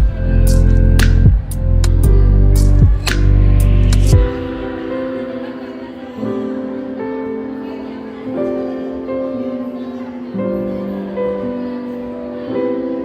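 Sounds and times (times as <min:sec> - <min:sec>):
soft keyboard chords: 0:00.0 - 0:13.0.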